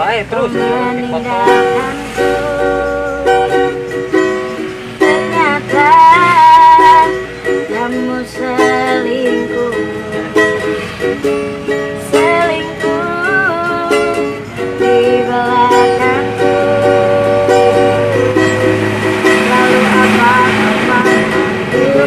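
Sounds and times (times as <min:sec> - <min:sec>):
person singing: 0:00.0 - 0:04.0, 0:05.0 - 0:10.9, 0:11.9 - 0:22.0
ukulele strumming: 0:00.0 - 0:22.0.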